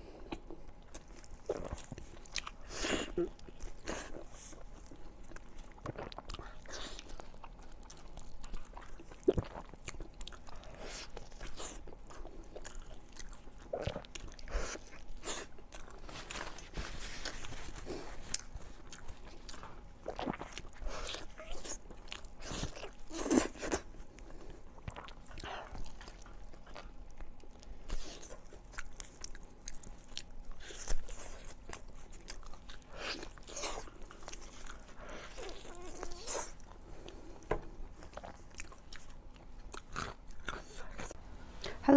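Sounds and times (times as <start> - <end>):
crunchy chewing: 0.2 - 41.2.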